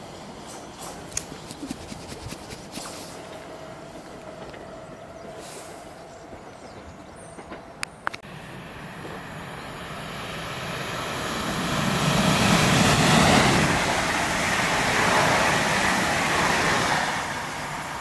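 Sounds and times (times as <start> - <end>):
electric train passing: 3.1 - 18.0.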